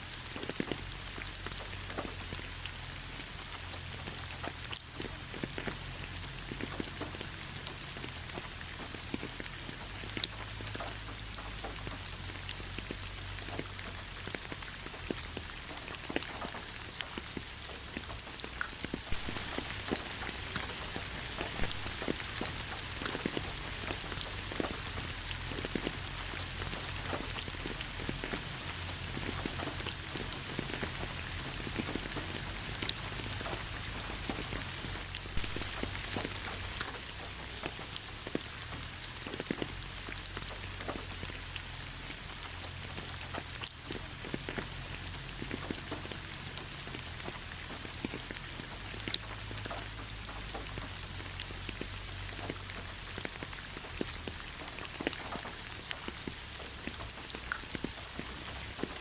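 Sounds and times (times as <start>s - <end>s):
raindrops pattering on hard surface: 0.0s - 59.0s
steady rain hiss: 0.0s - 59.0s.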